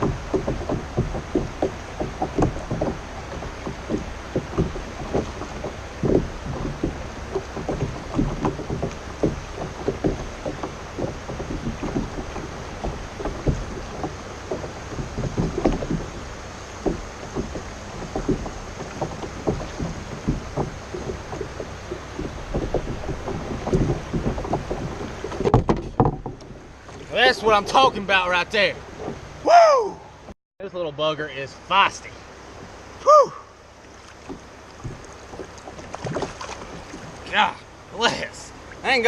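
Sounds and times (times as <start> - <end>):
small knocks and sloshes: 0.0 - 29.5, 33.6 - 39.0
water lapping against kayak hull: 0.0 - 30.4, 31.6 - 39.0.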